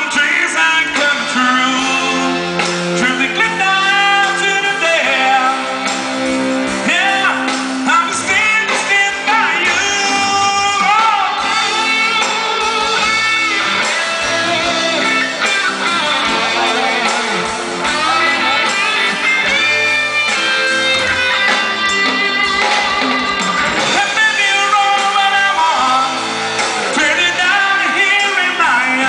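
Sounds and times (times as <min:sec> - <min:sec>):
person singing into a microphone: 0:00.0 - 0:06.0, 0:06.7 - 0:29.0
electric guitar: 0:00.0 - 0:29.0
live band playing: 0:00.0 - 0:29.0.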